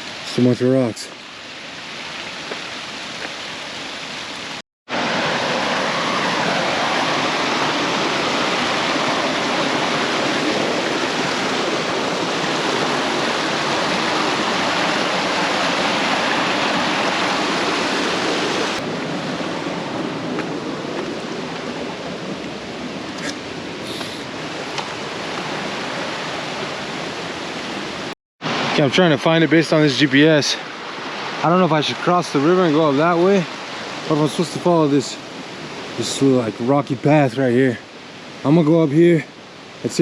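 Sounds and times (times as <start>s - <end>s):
river rushing over rocks: 4.2s - 36.3s.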